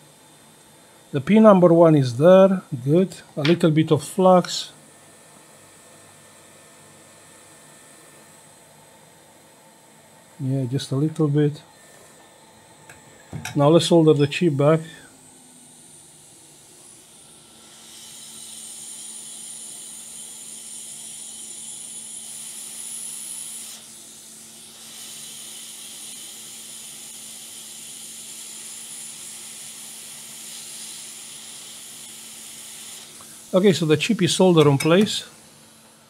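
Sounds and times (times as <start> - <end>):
hot air station hissing: 0.0 - 4.8, 10.2 - 36.0.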